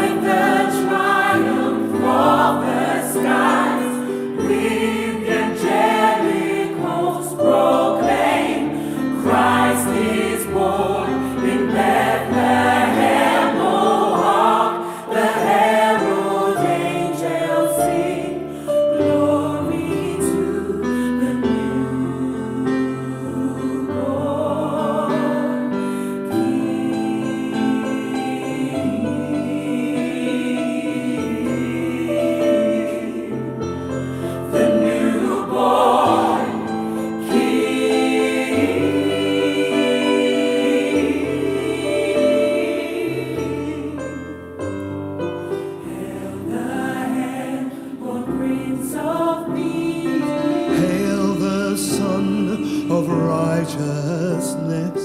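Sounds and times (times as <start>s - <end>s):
gospel choir singing: 0.0s - 55.0s.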